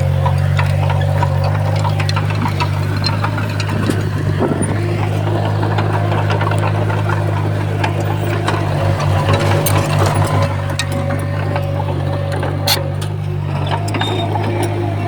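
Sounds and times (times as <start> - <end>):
diesel engine running: 0.0 - 15.0
sharp clicks and clanks: 0.1 - 15.0.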